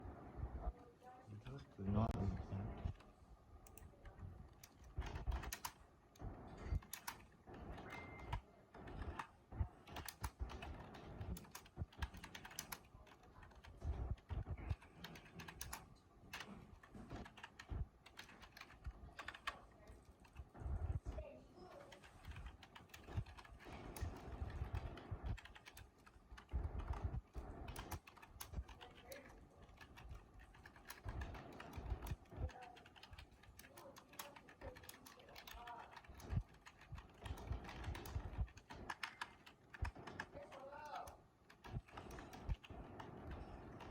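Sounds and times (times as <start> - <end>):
computer keyboard typing: 2.8 - 43.9.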